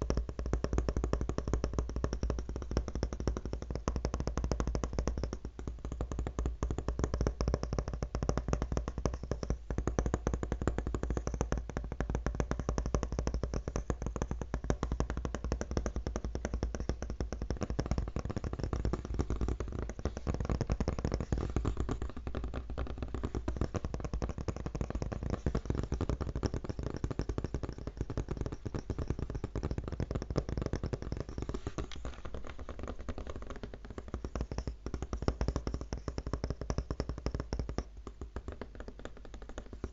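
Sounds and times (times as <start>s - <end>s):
fast tapping on laptop: 0.0s - 39.9s.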